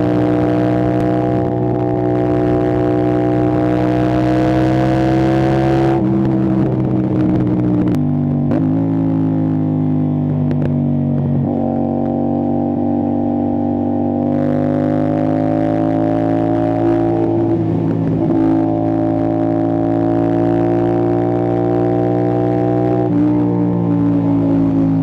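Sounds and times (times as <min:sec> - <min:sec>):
motorcycle engine at speed: 0:00.0 - 0:25.0.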